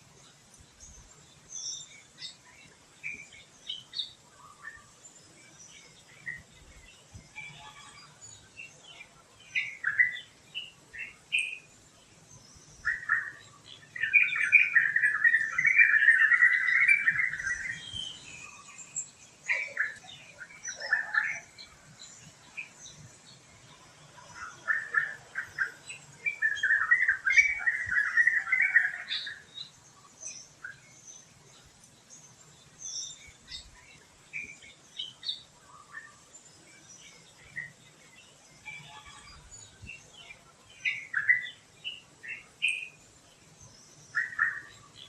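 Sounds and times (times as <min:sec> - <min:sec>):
wild birds chirping: 0:00.0 - 0:45.0.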